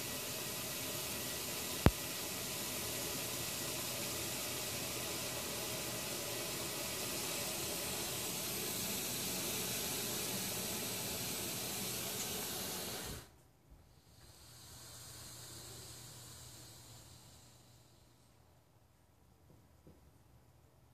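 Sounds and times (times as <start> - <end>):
snake hissing: 0.0 - 13.3, 13.9 - 18.3.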